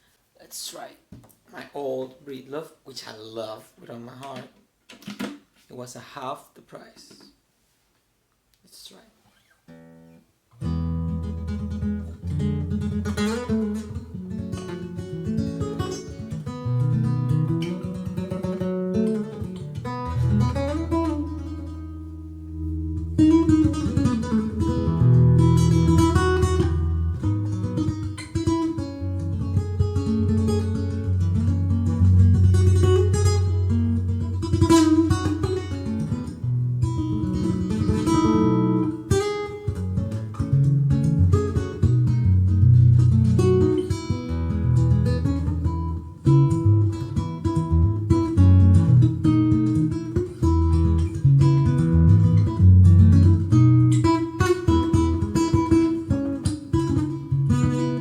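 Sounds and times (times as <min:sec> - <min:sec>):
acoustic guitar playing: 0:09.3 - 0:58.0.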